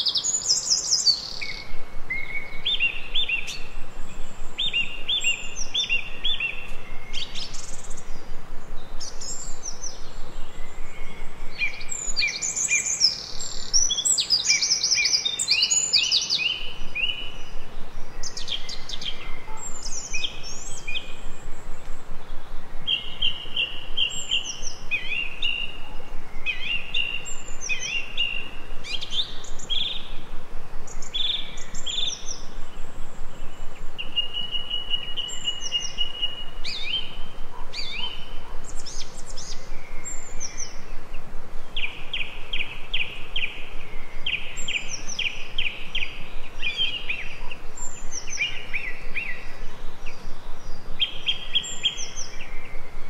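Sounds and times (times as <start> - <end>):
birds singing and chirping: 0.0 - 53.0
steady background hiss: 0.0 - 53.0.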